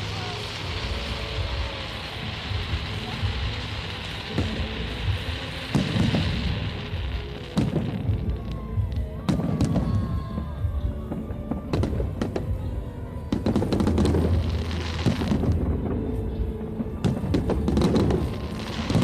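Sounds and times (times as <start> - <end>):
fireworks bangs with rumble: 0.0 - 19.0.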